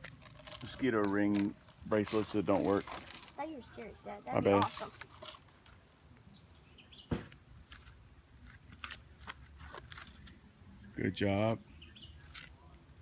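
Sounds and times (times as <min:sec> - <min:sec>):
rustling leaves and twigs: 0:00.0 - 0:10.9, 0:11.9 - 0:13.0.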